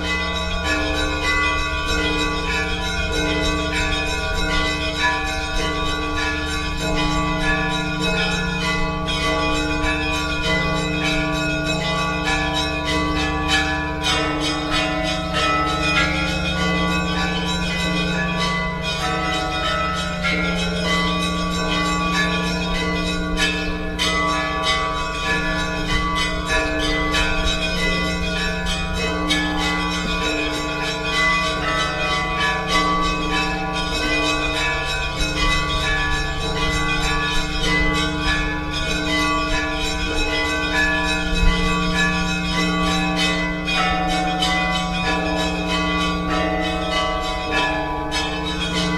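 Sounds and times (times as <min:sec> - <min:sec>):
deep bells humming: 0:00.0 - 0:48.9
small church bells ringing: 0:00.0 - 0:48.9.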